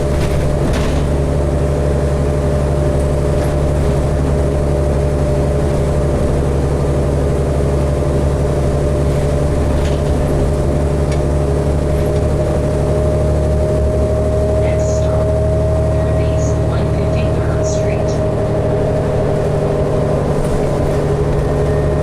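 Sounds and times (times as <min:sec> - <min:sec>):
bus interior engine drone: 0:00.0 - 0:22.0
steady whine: 0:01.2 - 0:22.0.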